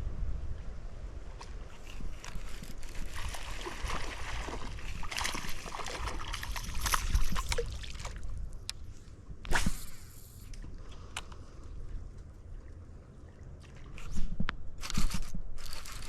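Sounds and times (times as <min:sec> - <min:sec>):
wind rumbling on microphone: 0:00.0 - 0:16.0
water splashing and trickling: 0:01.2 - 0:09.4, 0:10.4 - 0:16.0.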